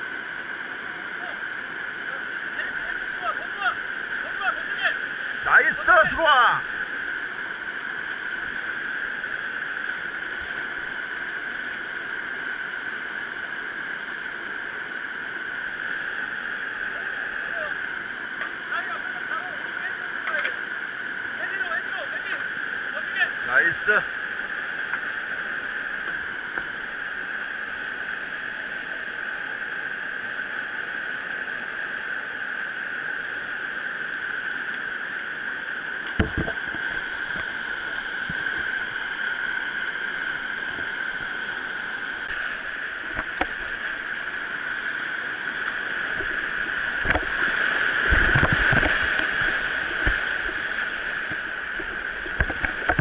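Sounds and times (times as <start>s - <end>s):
stream water over rapids: 0.0s - 53.0s.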